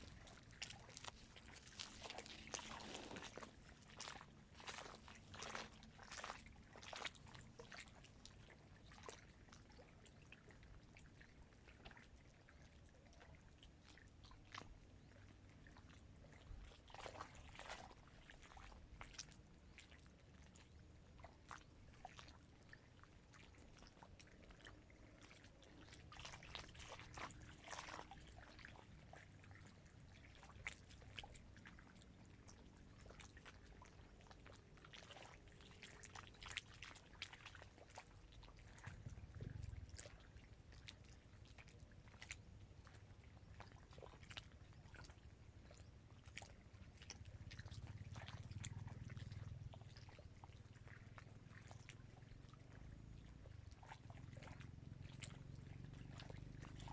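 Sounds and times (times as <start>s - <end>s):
small waves lapping at shore: 0.0s - 56.9s
soft splashes: 0.0s - 56.9s.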